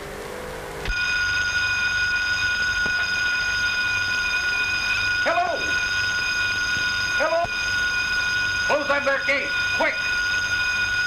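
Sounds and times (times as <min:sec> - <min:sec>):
high-pitched alarm tone: 0:00.9 - 0:11.0
short rising and falling squeal: 0:00.9 - 0:11.0.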